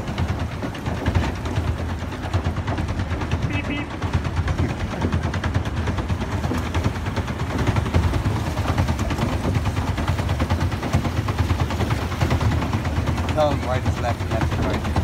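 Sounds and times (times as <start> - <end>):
paddle wheel churning water: 0.0 - 15.0.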